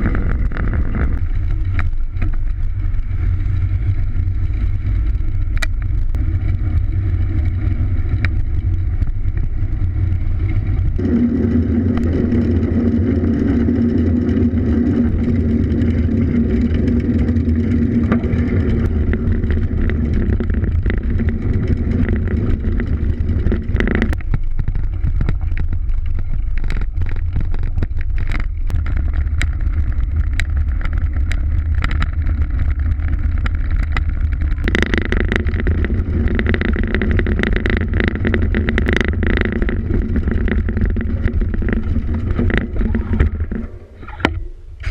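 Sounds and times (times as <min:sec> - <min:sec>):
bike rattling and knocking: 0:00.0 - 0:44.9
steady drone: 0:00.0 - 0:44.9
wind rumble on camera: 0:00.0 - 0:44.9.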